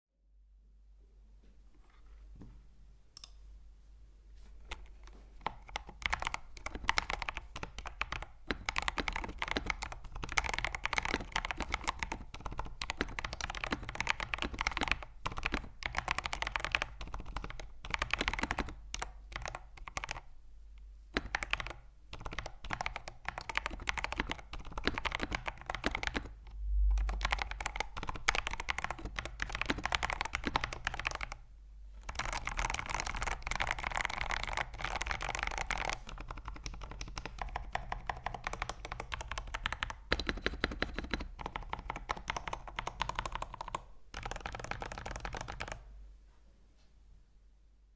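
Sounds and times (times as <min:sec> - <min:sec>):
fast mechanical keyboard typing: 0:04.7 - 0:20.3, 0:21.2 - 0:26.4, 0:27.0 - 0:31.4, 0:32.0 - 0:45.9.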